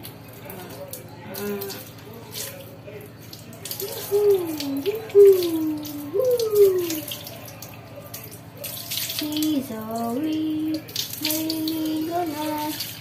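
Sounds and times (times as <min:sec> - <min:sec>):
water splashing on dog: 0:00.0 - 0:13.0.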